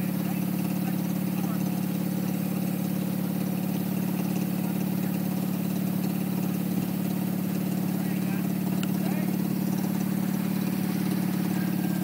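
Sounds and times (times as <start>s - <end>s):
garden tractor engine idling: 0.0s - 12.0s.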